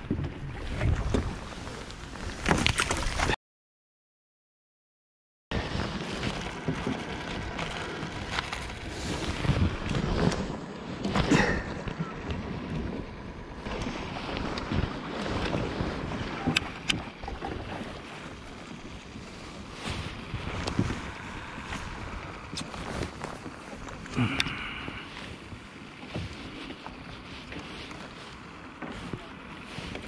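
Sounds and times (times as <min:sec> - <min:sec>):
wind buffeting microphone: 0:00.0 - 0:02.7, 0:05.5 - 0:28.2.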